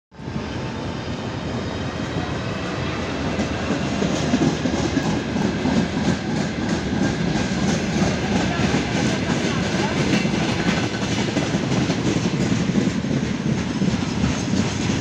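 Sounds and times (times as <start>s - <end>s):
freight train rumbling: 0.2s - 15.0s.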